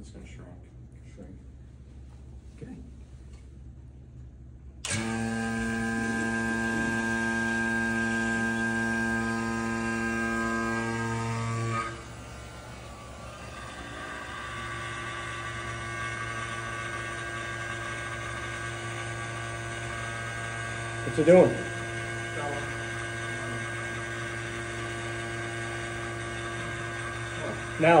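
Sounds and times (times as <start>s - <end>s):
vacuum pump humming: 4.7s - 28.0s.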